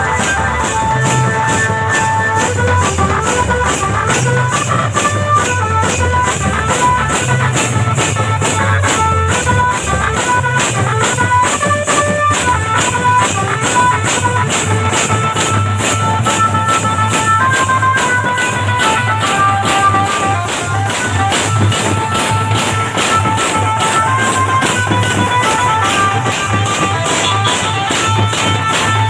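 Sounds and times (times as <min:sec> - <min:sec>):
drum: 0:00.0 - 0:29.0
hand cymbals clashing: 0:00.0 - 0:29.0
stepping melody: 0:00.0 - 0:29.0.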